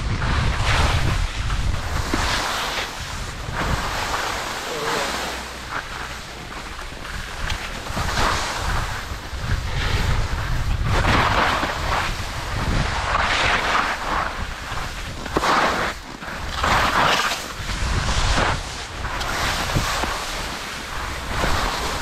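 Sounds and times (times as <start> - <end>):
skis hissing through snow: 0.0 - 22.0
wind rumbling on microphone: 0.0 - 22.0.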